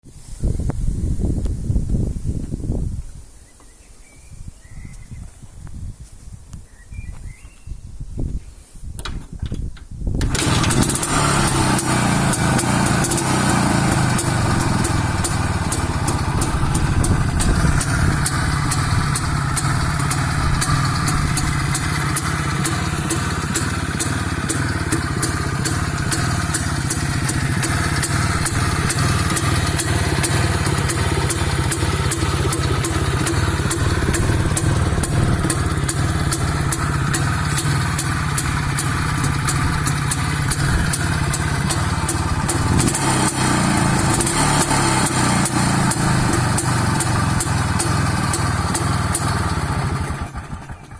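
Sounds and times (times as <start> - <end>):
motorcycle engine starting: 9.0 - 50.9.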